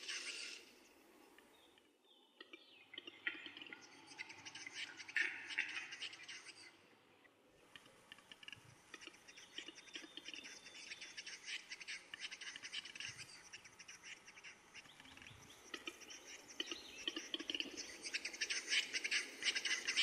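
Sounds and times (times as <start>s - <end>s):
bird song of dry clicks and scrapes: 0.0s - 20.0s.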